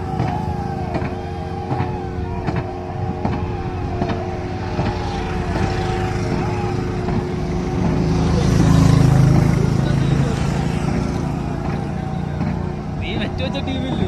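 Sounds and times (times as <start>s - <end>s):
sharp rowing strikes: 0.0s - 14.0s.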